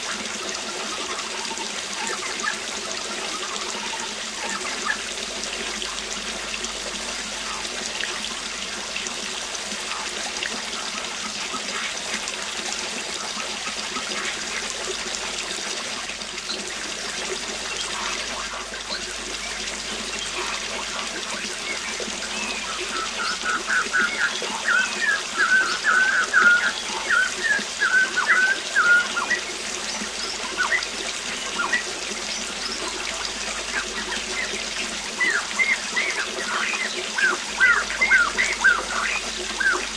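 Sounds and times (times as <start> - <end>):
birds chirping: 0.0 - 6.4, 13.2 - 39.9
waterfall rushing: 0.0 - 39.9.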